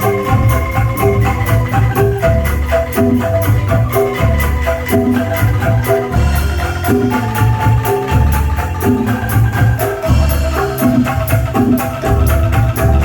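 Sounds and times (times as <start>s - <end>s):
fast percussion beat: 0.0s - 13.0s
marimba-like melody: 0.0s - 13.0s
music over sound system: 0.0s - 13.0s.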